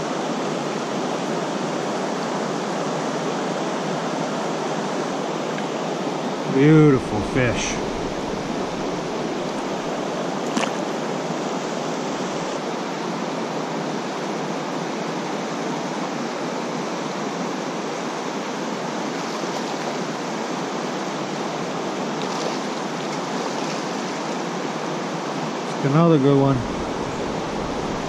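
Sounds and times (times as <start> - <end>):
creek water rushing over rapids: 0.0 - 28.0.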